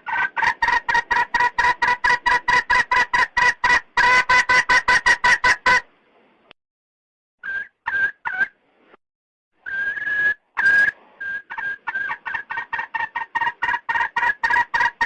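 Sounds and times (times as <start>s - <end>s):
hen clucking and calling: 0.0s - 5.9s, 7.4s - 8.6s, 9.7s - 15.0s.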